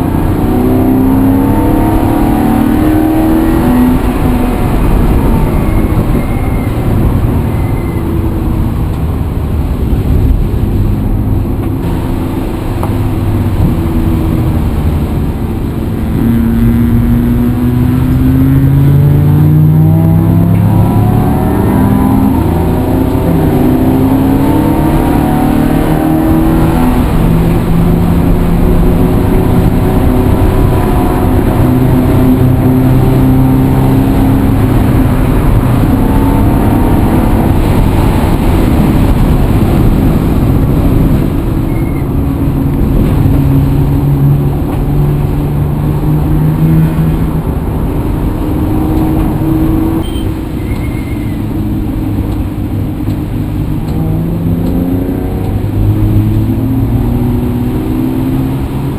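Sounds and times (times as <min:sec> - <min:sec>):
vehicle engine accelerating: 0:00.0 - 0:58.9.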